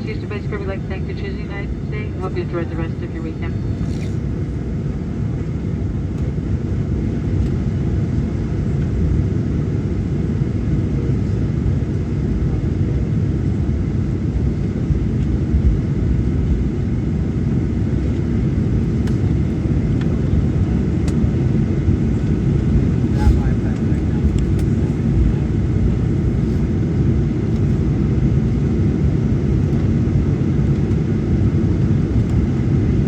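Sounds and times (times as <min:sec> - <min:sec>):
aircraft cabin rumble: 0:00.0 - 0:33.0.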